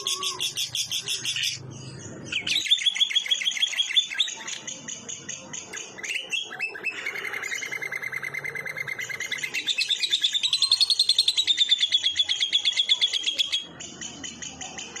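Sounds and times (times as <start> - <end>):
lovebird chirps: 0.0 - 15.0.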